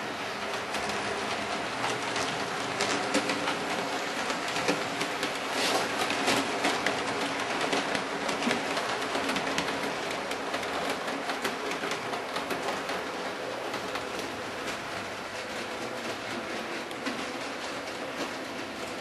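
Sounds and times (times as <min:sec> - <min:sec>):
model train rolling rattle: 0:00.0 - 0:19.0
wheels clicking over track: 0:00.0 - 0:19.0.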